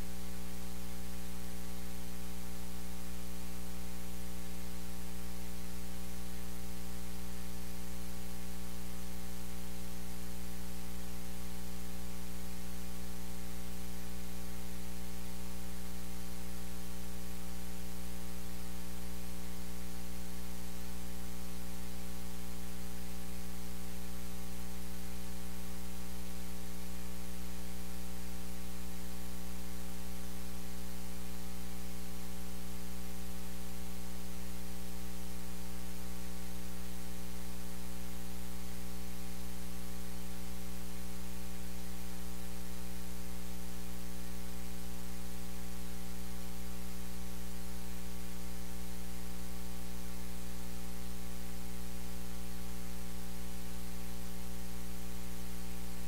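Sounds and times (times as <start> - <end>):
constant hiss: 0.0 - 56.0
electrical mains hum: 0.0 - 56.0.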